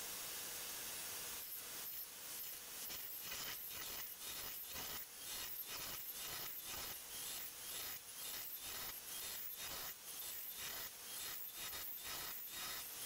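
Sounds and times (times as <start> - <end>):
milling machine hiss: 0.0 - 13.0
rasping metal cutting: 1.4 - 13.0.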